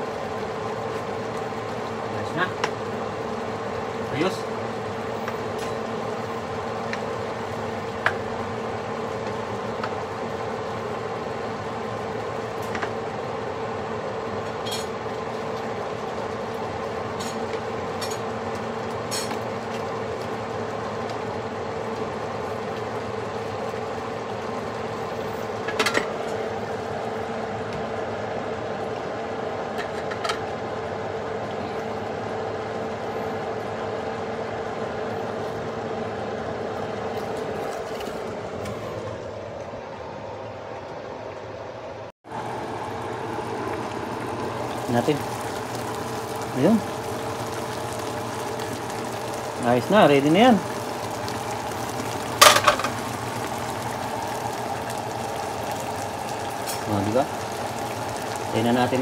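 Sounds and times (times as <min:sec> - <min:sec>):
mechanical hum with tone: 0:00.0 - 0:59.0.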